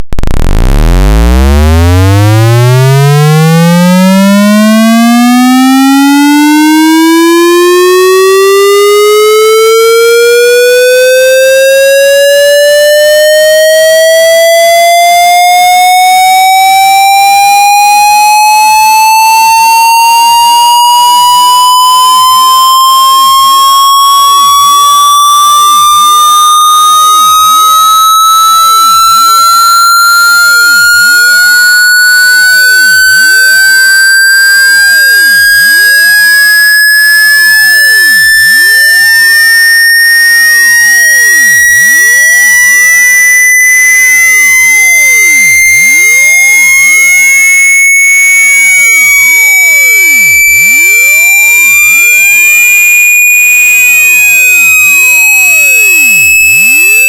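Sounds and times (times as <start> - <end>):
synthesized tone rising in pitch: 0.0 - 49.7.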